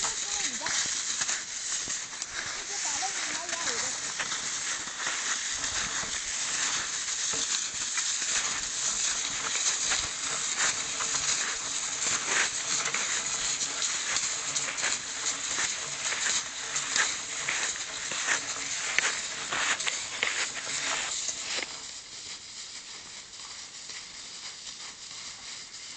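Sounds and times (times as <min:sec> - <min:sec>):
footsteps crunching through snow: 0:00.0 - 0:25.9
steady hiss: 0:00.0 - 0:25.9.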